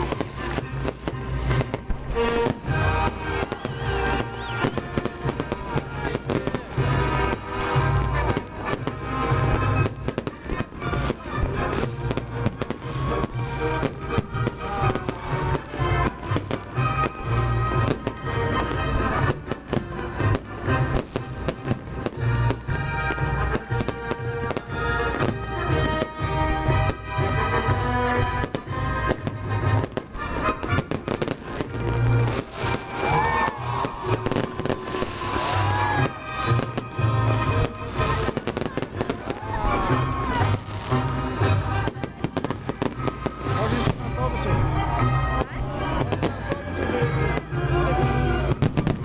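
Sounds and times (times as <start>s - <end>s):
fireworks bangs and crackles: 0.0s - 49.0s
music playing: 0.0s - 49.0s.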